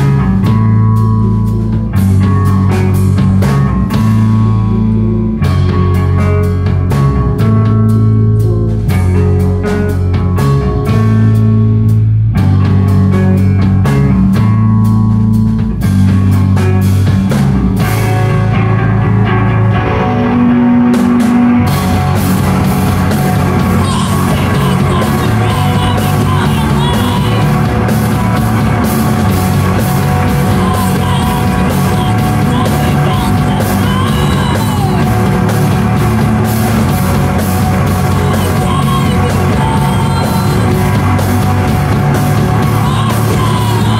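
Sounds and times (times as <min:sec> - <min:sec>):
live heavy rock band: 0:00.0 - 0:43.9
rock vocals: 0:00.0 - 0:43.9.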